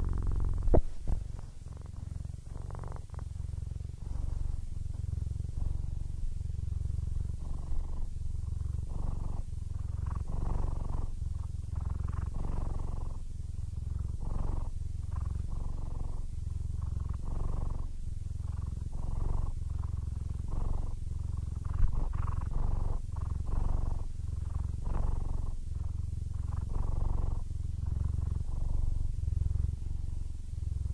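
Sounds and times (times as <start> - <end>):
cat purring: 0.0 - 30.9.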